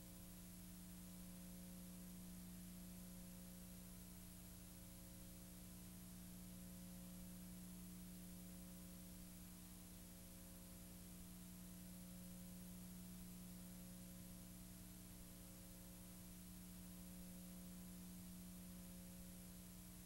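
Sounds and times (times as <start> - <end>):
faint steady hum with hiss: 0.0 - 20.0.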